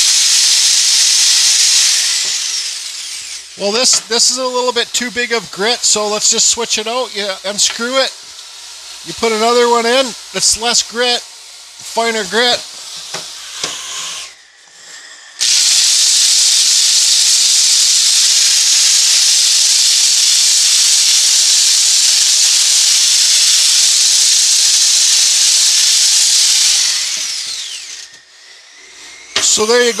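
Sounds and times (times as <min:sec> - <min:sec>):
drill motor winding down: 0:00.0 - 0:30.0
sanding pad hissing on wood: 0:00.0 - 0:30.0.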